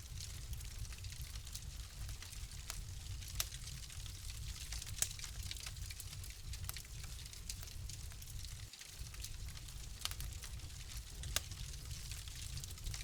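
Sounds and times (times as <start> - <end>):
fire popping and snapping: 0.0 - 13.0
low steady rumble of fire: 0.0 - 13.0.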